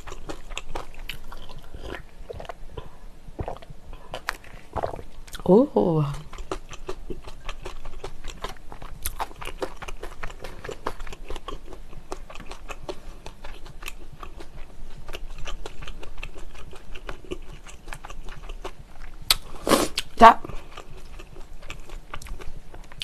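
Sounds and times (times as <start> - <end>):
person chewing food: 0.0 - 5.5, 6.2 - 23.0.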